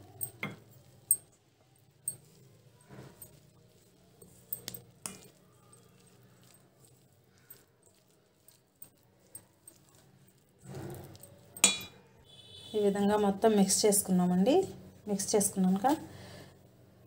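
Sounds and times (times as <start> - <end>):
spoon stirring batter in steel bowl: 0.0 - 16.6.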